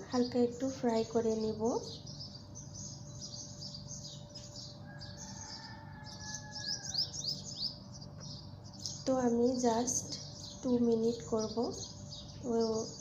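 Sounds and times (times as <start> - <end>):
faint steady hum: 0.0 - 13.0
small birds chirping: 0.0 - 13.0.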